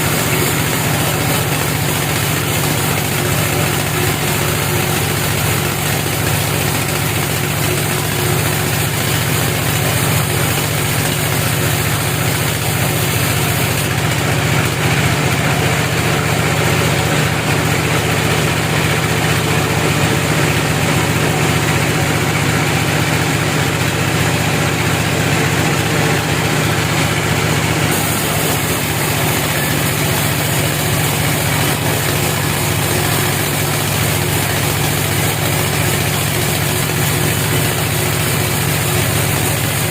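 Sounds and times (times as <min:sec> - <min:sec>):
sawmill machine engine running: 0:00.0 - 0:39.9.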